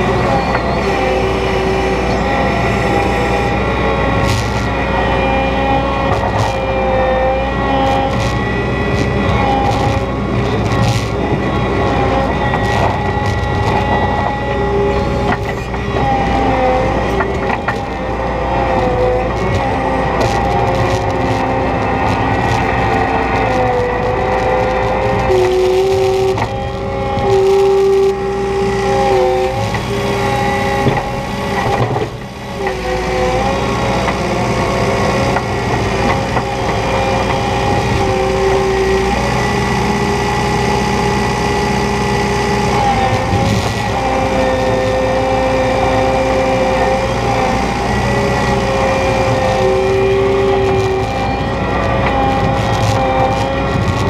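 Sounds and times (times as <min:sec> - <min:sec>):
hydraulic whine: 0:00.0 - 0:54.0
skid steer engine rumbling: 0:00.0 - 0:54.0.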